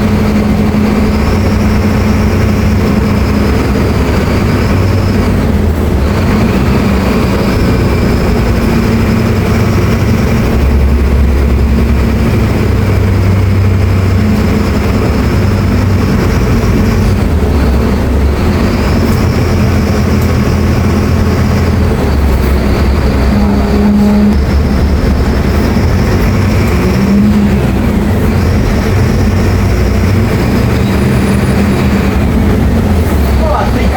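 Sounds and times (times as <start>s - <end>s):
bus diesel engine running: 0.0s - 33.9s
steady high whine: 0.0s - 33.9s.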